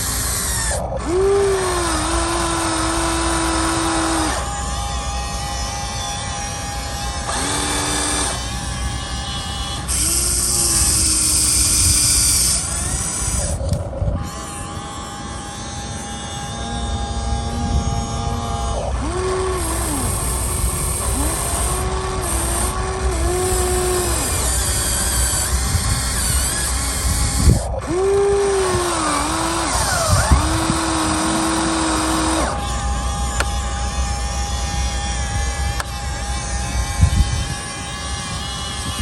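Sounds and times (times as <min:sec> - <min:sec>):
electric motors whining: 0:00.0 - 0:39.0.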